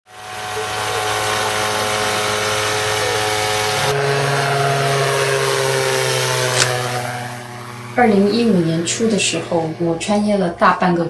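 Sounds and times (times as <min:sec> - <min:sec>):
light aircraft engine running: 0:00.1 - 0:11.0.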